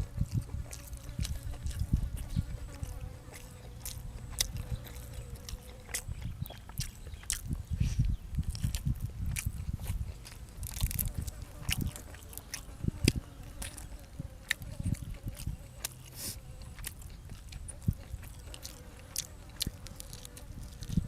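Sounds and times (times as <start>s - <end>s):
person chewing and biting: 0.0s - 21.0s.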